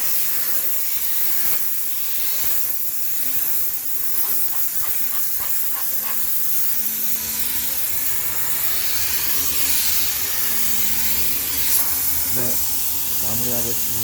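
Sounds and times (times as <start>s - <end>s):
steam cleaner hissing: 0.0s - 14.0s.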